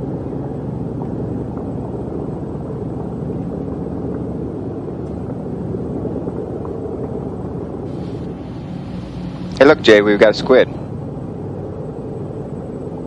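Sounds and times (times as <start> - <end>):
faint hum: 0.0 - 13.0
low machinery rumble: 0.0 - 13.0.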